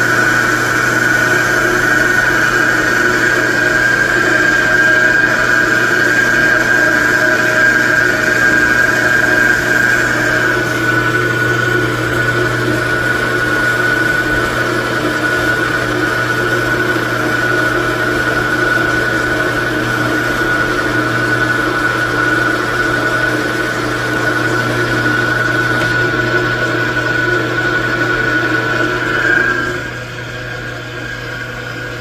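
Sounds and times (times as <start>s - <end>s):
metal lathe whining: 0.0s - 32.0s.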